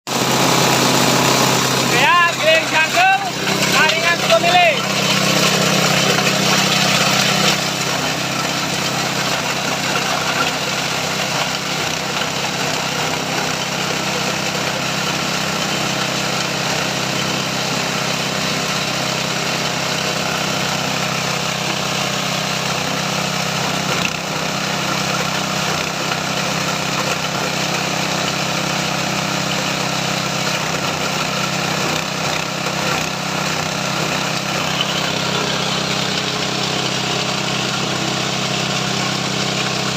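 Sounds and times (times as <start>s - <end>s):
grinding machine running: 0.1s - 39.9s.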